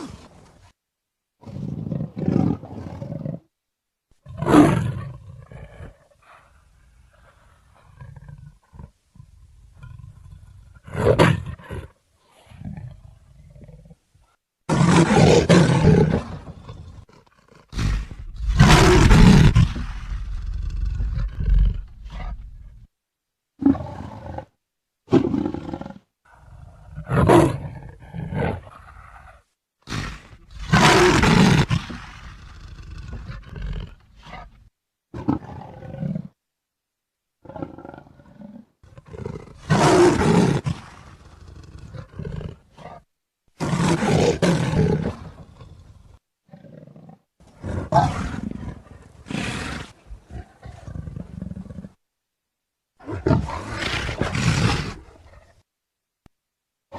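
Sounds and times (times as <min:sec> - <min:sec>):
leopard roaring: 0:04.2 - 0:14.0, 0:14.7 - 0:22.8, 0:25.1 - 0:36.4, 0:37.4 - 0:43.0, 0:43.6 - 0:52.0, 0:53.0 - 0:55.6.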